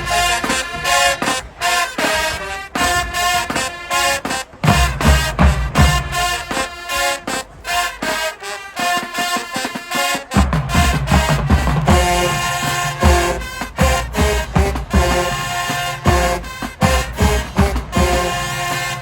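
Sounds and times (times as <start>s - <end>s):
brass melody: 0.0s - 19.0s
drumline: 0.0s - 19.0s.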